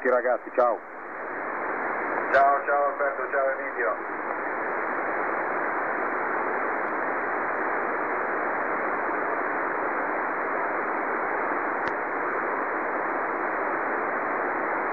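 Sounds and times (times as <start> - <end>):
radio band noise hiss: 0.0 - 14.9.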